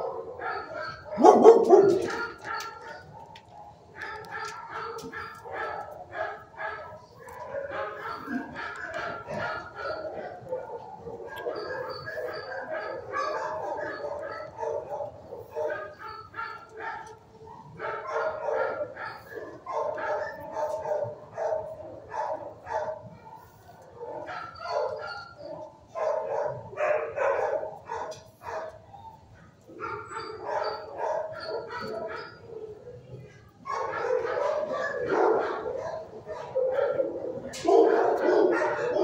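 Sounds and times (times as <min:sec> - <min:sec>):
many dogs barking: 0:00.0 - 0:39.0.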